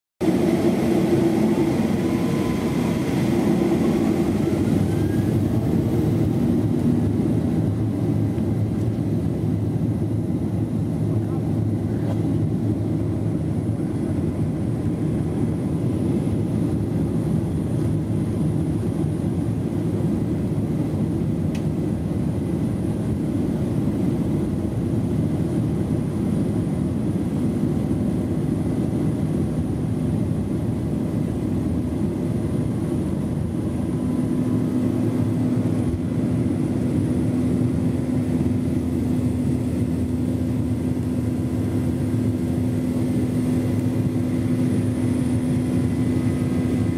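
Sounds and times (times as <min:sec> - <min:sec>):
airliner engines rumbling: 0:00.2 - 0:46.9.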